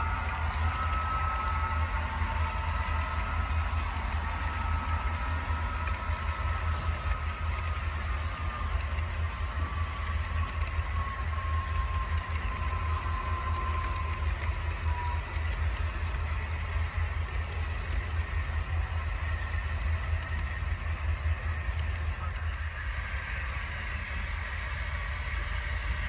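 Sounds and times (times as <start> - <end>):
faint whine: 0.0 - 26.0
model train motors rumbling: 0.0 - 26.0.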